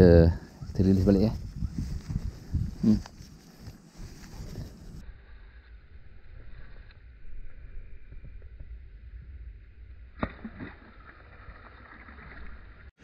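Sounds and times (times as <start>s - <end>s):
wind rumble on microphone: 0.0s - 12.9s.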